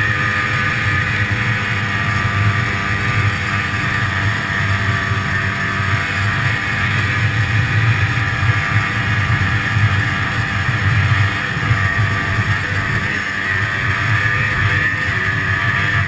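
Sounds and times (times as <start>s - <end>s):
snowmobile engine running: 0.0s - 16.0s.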